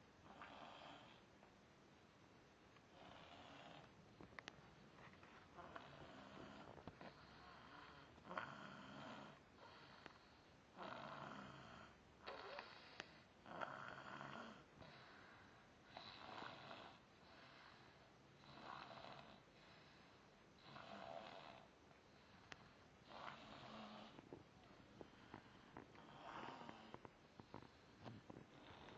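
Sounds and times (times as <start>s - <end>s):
faint snoring: 0.2s - 1.3s, 2.9s - 4.0s, 5.5s - 28.9s.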